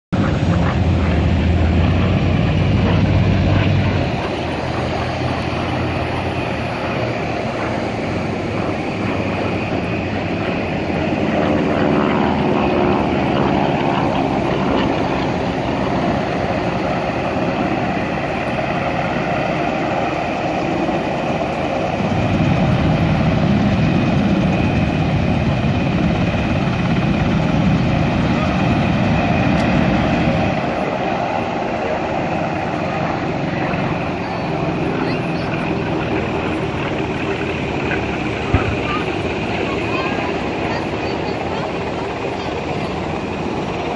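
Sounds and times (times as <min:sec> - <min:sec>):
propeller plane engine drone: 0:00.1 - 0:43.9.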